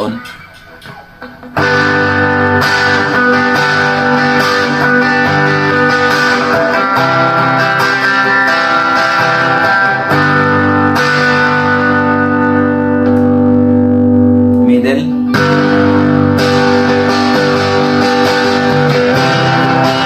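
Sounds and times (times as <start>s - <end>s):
overdriven electric guitar chords: 0.0s - 20.0s.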